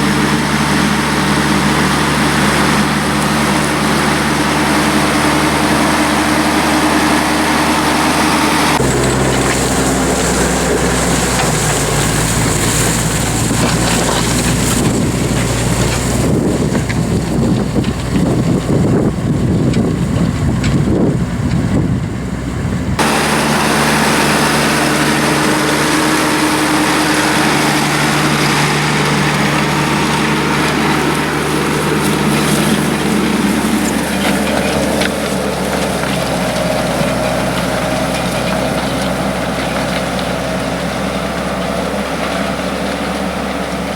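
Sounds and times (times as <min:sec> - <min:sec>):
wind buffeting microphone: 0:00.0 - 0:42.6
engine running: 0:00.0 - 0:43.9.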